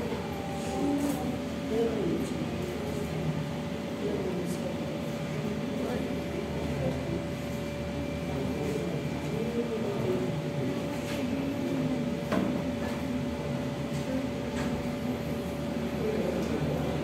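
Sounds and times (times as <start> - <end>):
steady room hum: 0.0 - 17.0.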